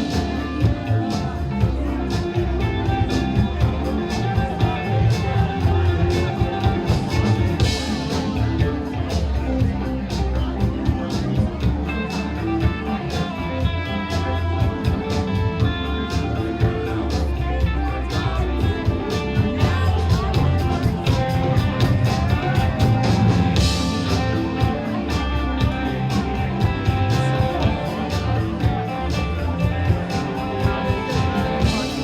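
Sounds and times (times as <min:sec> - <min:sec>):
rock music: 0:00.0 - 0:32.0.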